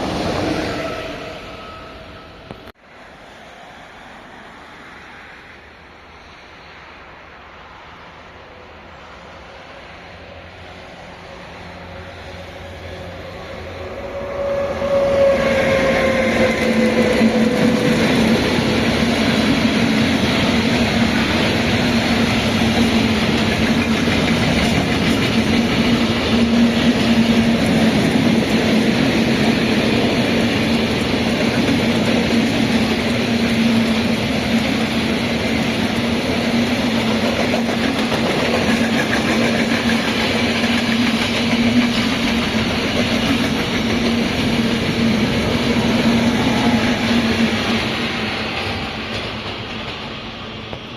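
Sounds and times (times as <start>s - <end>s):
train wheels rumbling on rails: 0.0s - 2.8s, 7.8s - 50.9s.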